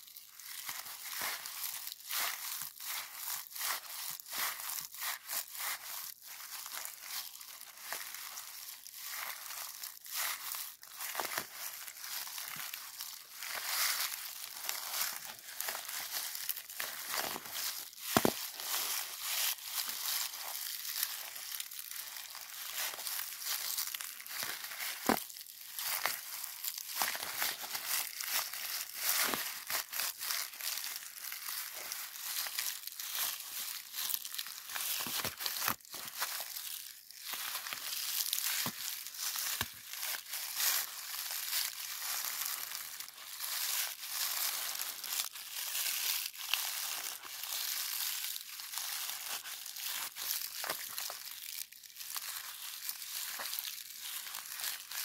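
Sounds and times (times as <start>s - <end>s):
sheet crinkling in hand: 0.0s - 55.0s.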